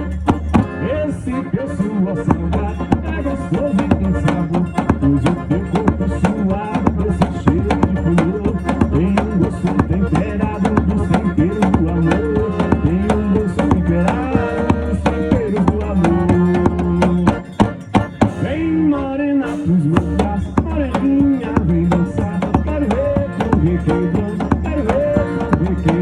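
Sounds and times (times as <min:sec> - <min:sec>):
band playing instrumental music: 0:00.0 - 0:26.0
driving percussion beat: 0:00.0 - 0:26.0.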